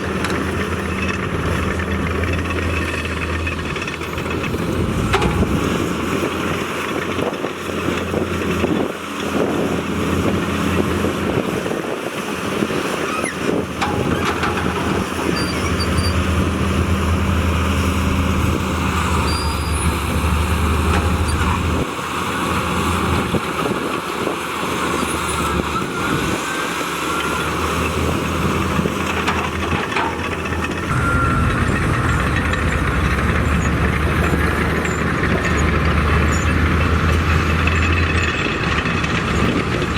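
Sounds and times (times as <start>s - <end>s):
heavy machinery diesel engines: 0.0s - 39.9s.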